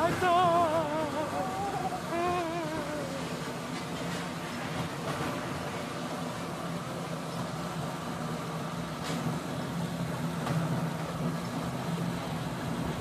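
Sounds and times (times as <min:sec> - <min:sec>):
ride car mechanical hum: 0:00.0 - 0:13.0.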